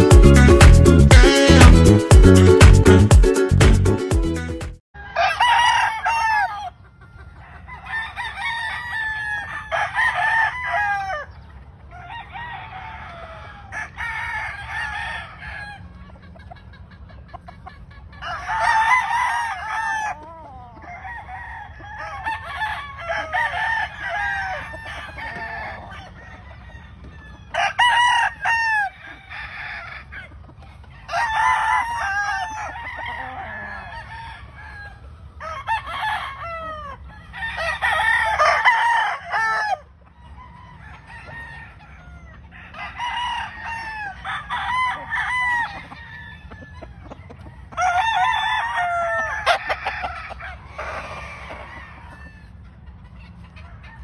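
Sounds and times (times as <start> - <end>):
roosters crowing: 5.0 - 54.0.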